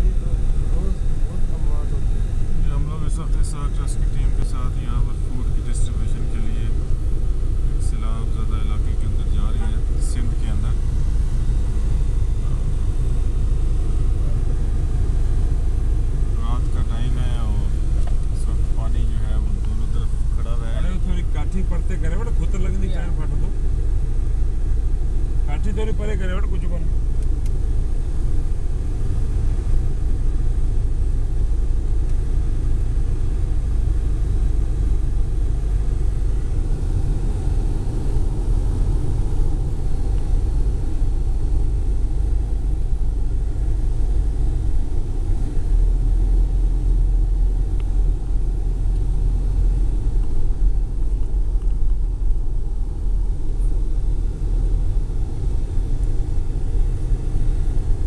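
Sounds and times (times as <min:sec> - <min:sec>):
engine and tyres rumbling: 0:00.0 - 0:58.0.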